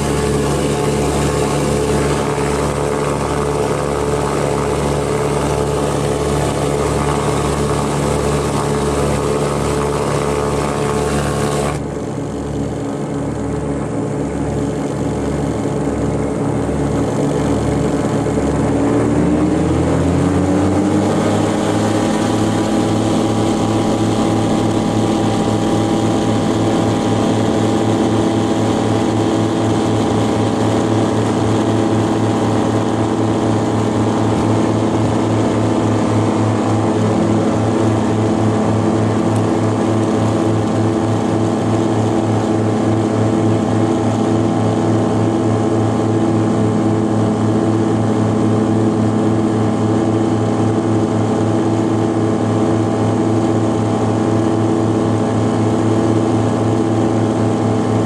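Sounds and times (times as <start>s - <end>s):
twin piston engines and propellers: 0.0s - 58.0s.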